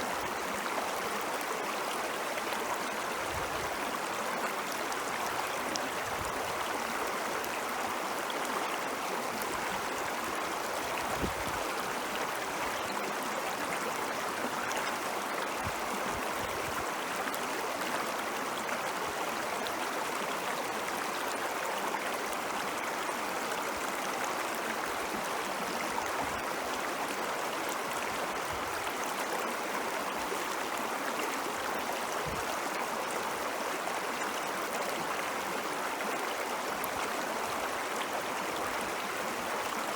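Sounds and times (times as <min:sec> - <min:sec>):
stream water rushing and gurgling: 0:00.0 - 0:39.9.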